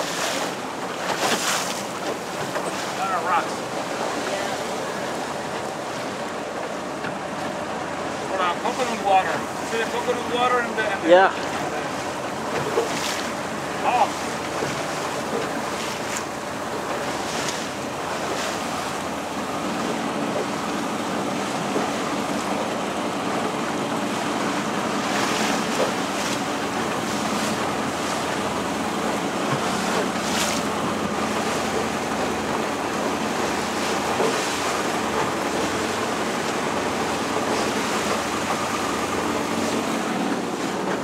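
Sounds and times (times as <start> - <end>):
boat motor running: 0.0 - 41.0
surf breaking on rocks: 0.0 - 41.0
wind and water rushing: 0.0 - 41.0.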